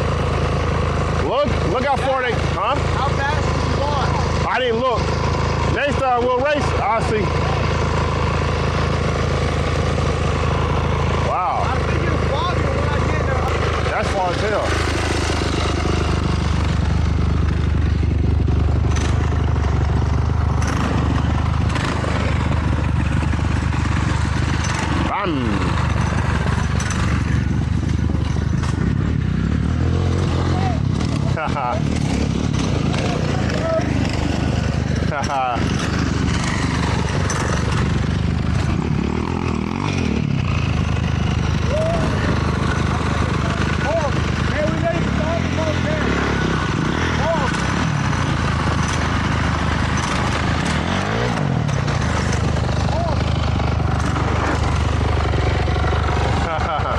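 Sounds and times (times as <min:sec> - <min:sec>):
dirt bike engine rumbling: 0:00.0 - 0:56.9.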